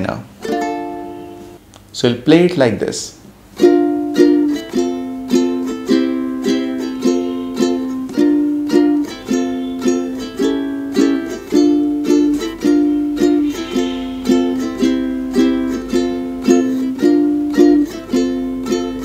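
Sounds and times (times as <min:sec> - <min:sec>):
ukulele strumming: 0:00.4 - 0:01.6, 0:03.5 - 0:19.0.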